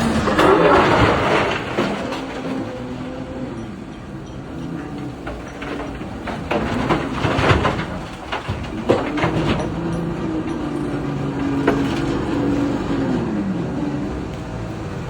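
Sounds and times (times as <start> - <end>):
ore clattering into wagon: 0.0 - 13.9.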